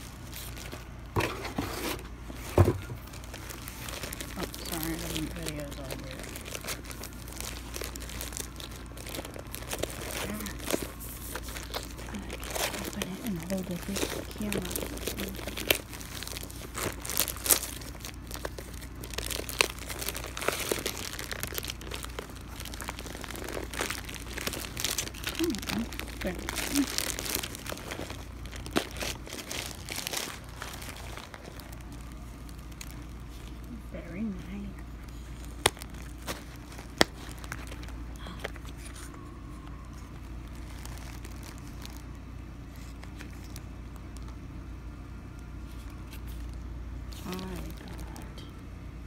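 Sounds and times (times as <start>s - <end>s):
plastic bag crinkling: 0.0s - 44.5s, 45.3s - 48.7s.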